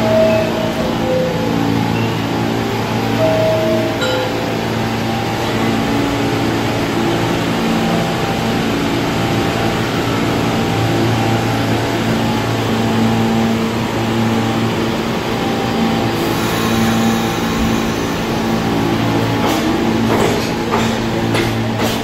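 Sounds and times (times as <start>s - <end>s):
subway car equipment humming: 0.0s - 22.0s.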